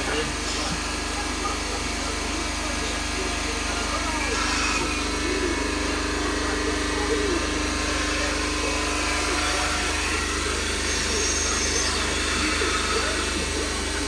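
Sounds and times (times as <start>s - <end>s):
milking machine humming: 0.0s - 14.0s.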